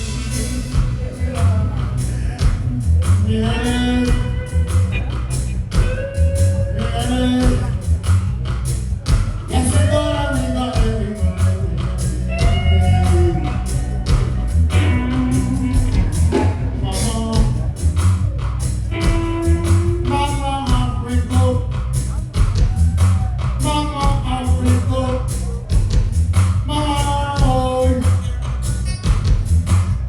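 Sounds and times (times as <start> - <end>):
person singing lead vocal: 0.0 - 8.5, 9.4 - 17.9, 19.0 - 25.9, 26.7 - 29.1
bass: 0.0 - 30.0
drum beat: 0.0 - 30.0
live reggae band playing: 0.0 - 30.0.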